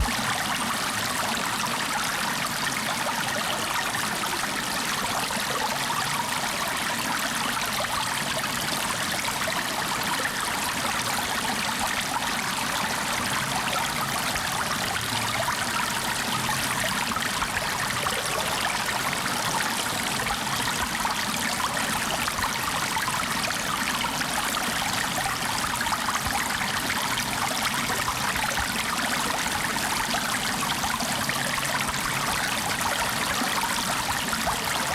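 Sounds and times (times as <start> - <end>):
flowing water rushing: 0.0 - 34.9.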